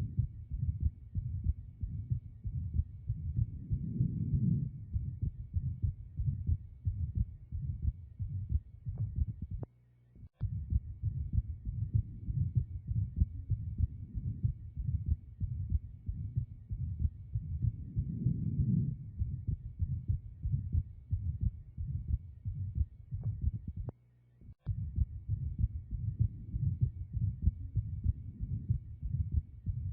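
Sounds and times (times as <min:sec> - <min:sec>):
heart murmur: 0:00.0 - 0:09.7, 0:10.4 - 0:23.9, 0:24.6 - 0:29.9
heartbeat through stethoscope: 0:00.0 - 0:09.7, 0:10.4 - 0:24.0, 0:24.6 - 0:29.9.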